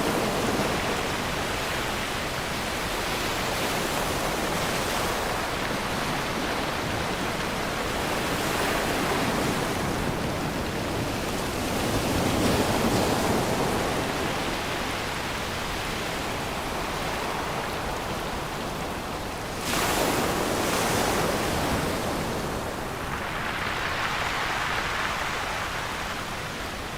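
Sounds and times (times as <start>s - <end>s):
waves washing on shore: 0.0s - 26.9s.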